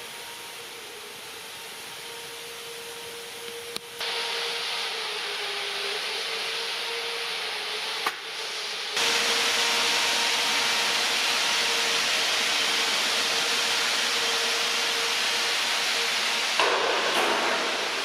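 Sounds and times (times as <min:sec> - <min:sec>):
machine hiss and hum: 0:00.0 - 0:18.0.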